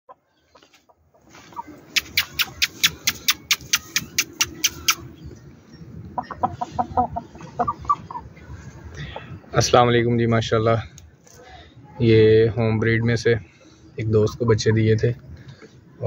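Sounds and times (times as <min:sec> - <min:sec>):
chickens clucking: 0:00.1 - 0:09.7, 0:12.0 - 0:15.8.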